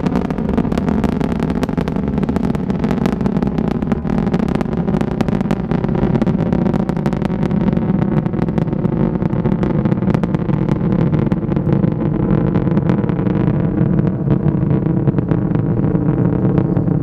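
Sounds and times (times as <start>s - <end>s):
distant rocket engine rumble: 0.0s - 17.0s.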